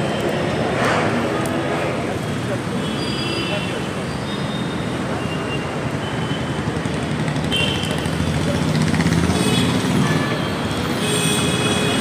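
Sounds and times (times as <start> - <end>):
motorbike and vehicle engines: 0.0 - 12.0.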